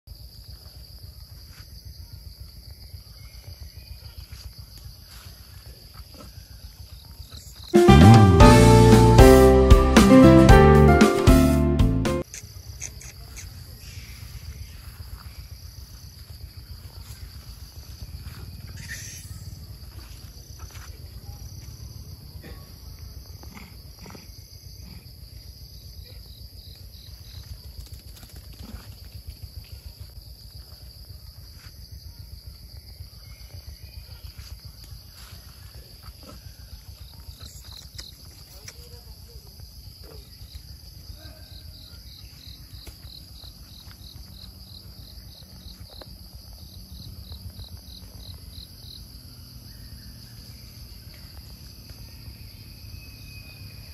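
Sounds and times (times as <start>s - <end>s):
high-pitched insect chorus: 0.1s - 7.8s, 12.2s - 53.9s
rapid insect chirps: 0.1s - 7.8s, 12.2s - 53.9s.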